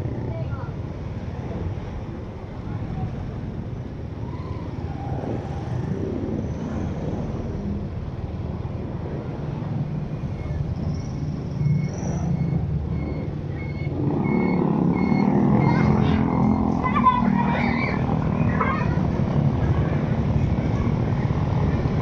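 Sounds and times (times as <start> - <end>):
vehicle driving rumble: 0.0 - 22.0.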